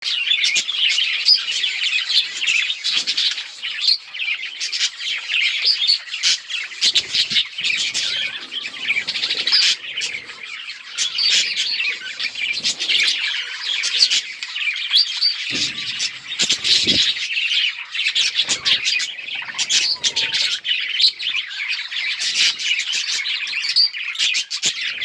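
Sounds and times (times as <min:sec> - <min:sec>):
budgerigars chirping: 0:00.1 - 0:25.0.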